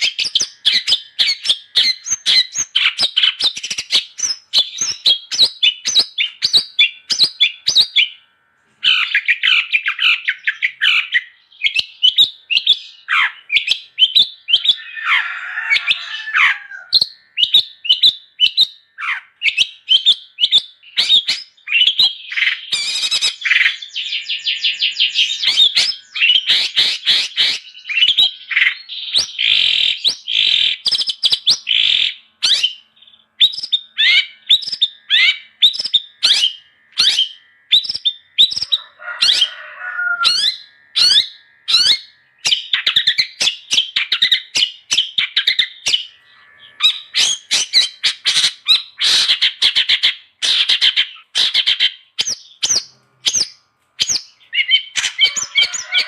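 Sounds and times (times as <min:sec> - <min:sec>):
shrike singing: 0:00.0 - 0:56.0.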